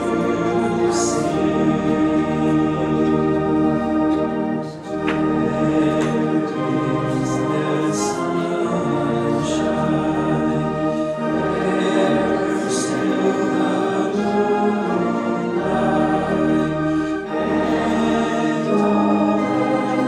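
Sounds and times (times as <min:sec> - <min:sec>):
organ chords: 0:00.0 - 0:20.0
voices singing: 0:00.0 - 0:20.0.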